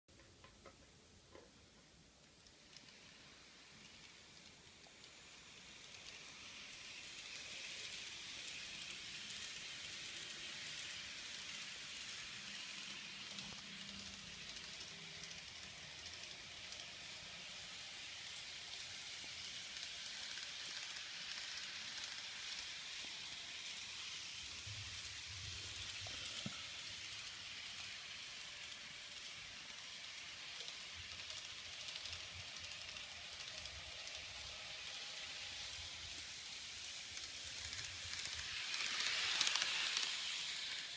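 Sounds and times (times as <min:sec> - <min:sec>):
model train wheels rolling on rails: 0:00.1 - 0:40.9.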